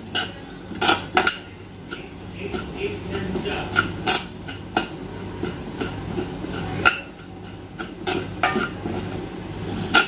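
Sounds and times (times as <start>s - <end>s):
spoon clinking against pan: 0.0s - 9.2s
spoon scraping pan: 0.0s - 10.0s.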